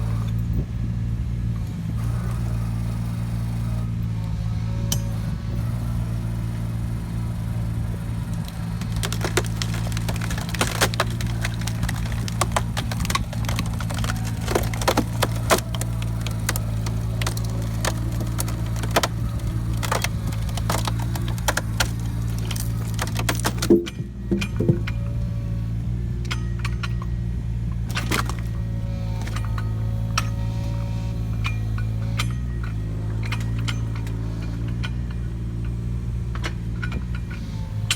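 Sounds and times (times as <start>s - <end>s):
excavator engine running: 0.0s - 37.9s
wood cracking and splintering: 4.9s - 25.8s, 27.8s - 37.9s.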